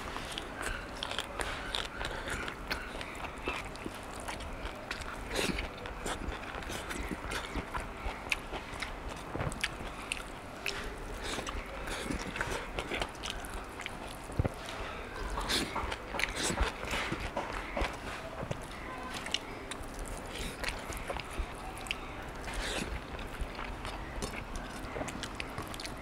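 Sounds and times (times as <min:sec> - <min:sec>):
man chewing and lip smacking: 0:00.0 - 0:26.0.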